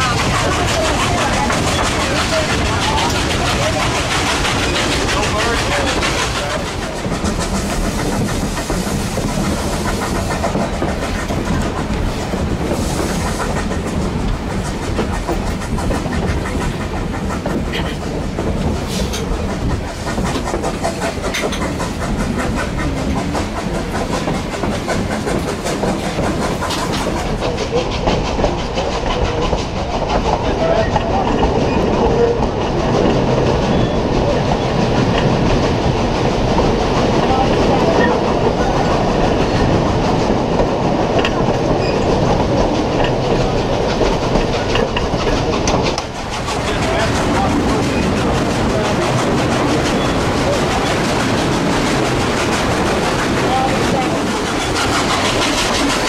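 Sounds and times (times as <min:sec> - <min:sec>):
steam hiss: 0:00.0 - 0:56.0
train cars rumbling on rails: 0:00.0 - 0:56.0.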